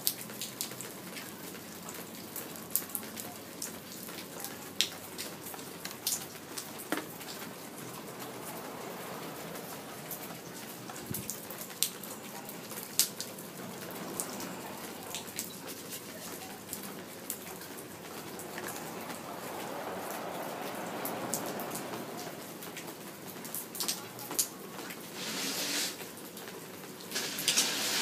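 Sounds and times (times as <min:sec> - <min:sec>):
heavy raindrops tapping: 0:00.0 - 0:28.0
rain falling: 0:00.0 - 0:28.0.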